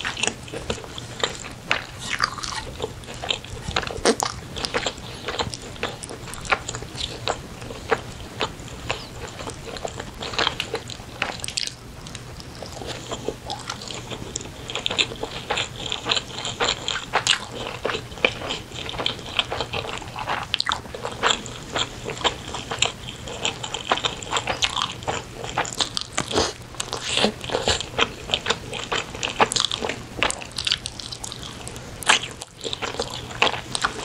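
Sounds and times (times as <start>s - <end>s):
close chewing with wet mouth clicks: 0.0s - 34.0s.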